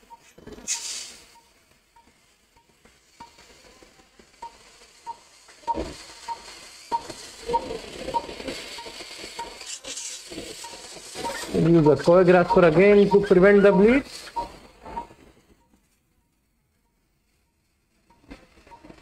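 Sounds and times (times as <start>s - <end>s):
patient monitor beeps: 0.0s - 3.5s, 4.4s - 19.0s.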